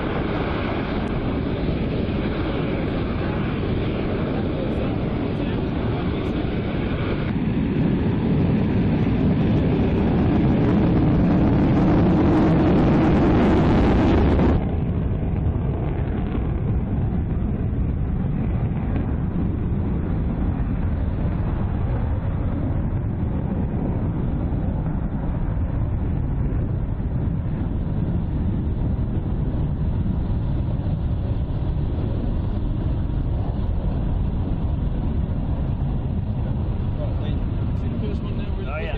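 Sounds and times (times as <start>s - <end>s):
distant jet rumble: 0.0s - 38.9s
jet engines running: 0.0s - 38.9s.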